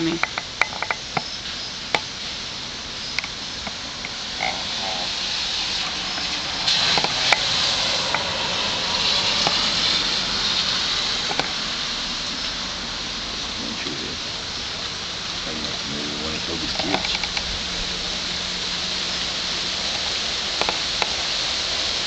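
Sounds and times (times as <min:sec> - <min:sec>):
car tyres hissing on wet street: 0:00.0 - 0:22.0
steady rain falling: 0:00.0 - 0:22.0.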